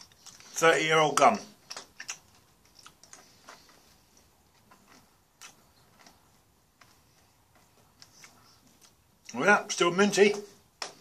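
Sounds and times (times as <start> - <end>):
faint chewing clicks: 0.0 - 0.6, 1.2 - 9.4.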